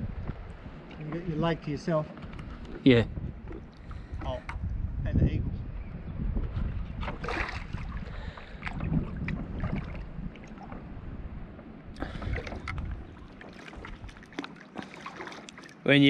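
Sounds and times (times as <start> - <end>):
wind rumble on microphone: 0.0 - 14.4
water splashing around kayaks: 0.1 - 4.7, 6.4 - 16.0.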